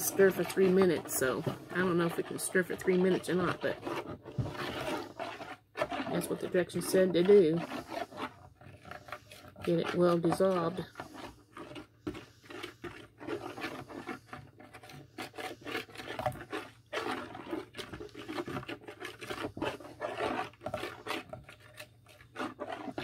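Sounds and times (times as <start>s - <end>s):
spoon scraping a container: 0.0s - 23.0s.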